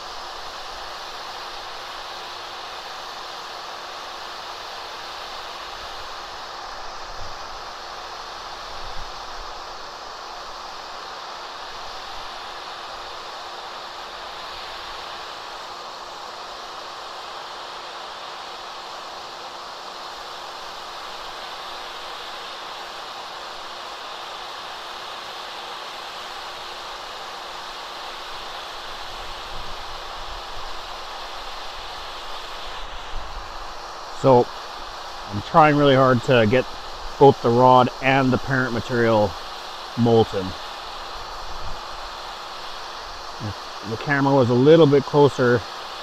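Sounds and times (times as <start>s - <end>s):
heat gun fan hiss: 0.0s - 46.0s.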